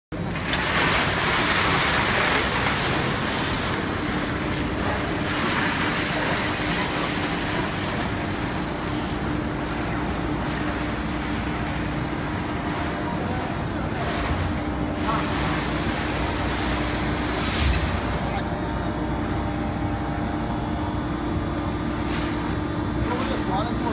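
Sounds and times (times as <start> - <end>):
steady hum: 0.1 - 23.9
machine running: 0.2 - 23.9.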